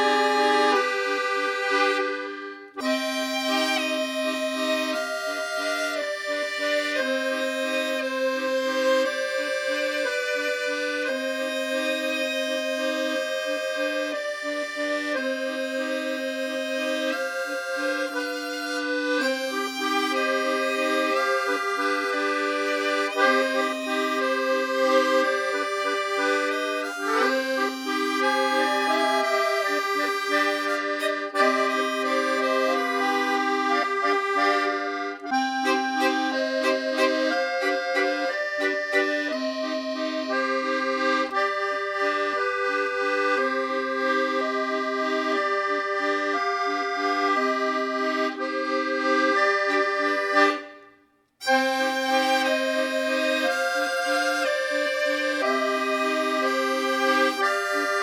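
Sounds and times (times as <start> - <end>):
accordion music: 0.0 - 58.0.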